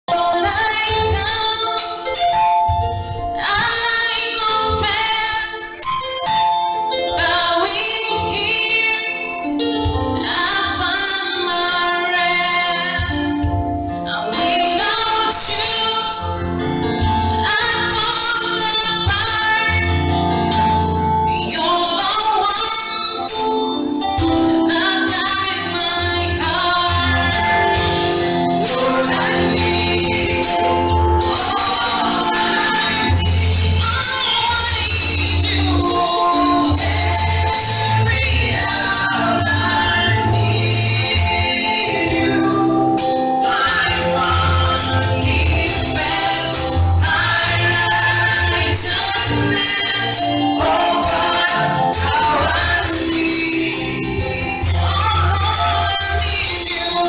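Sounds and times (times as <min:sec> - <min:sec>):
group singing gospel song: 0:00.1 - 0:02.3, 0:07.1 - 0:23.4, 0:24.1 - 0:57.0
instrumental backing: 0:00.1 - 0:57.0.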